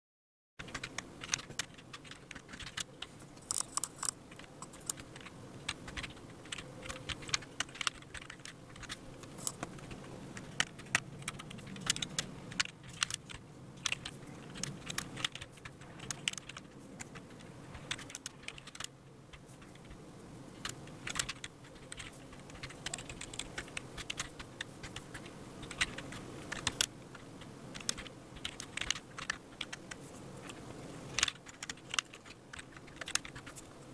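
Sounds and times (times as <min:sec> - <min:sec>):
keyboard typing clicks: 0:00.6 - 0:20.0, 0:20.6 - 0:33.7
low background hum: 0:00.6 - 0:33.9.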